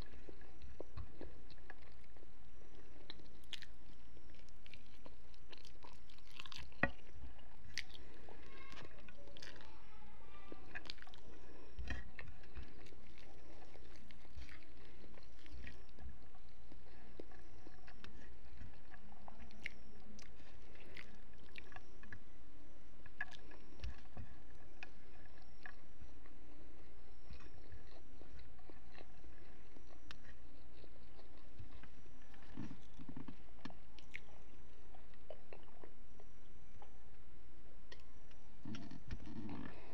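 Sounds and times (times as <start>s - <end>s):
person chewing: 0.0s - 37.0s.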